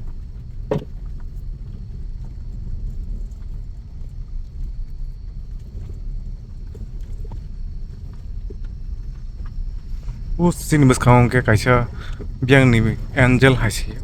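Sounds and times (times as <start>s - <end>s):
vehicle rumbling: 0.0s - 14.0s.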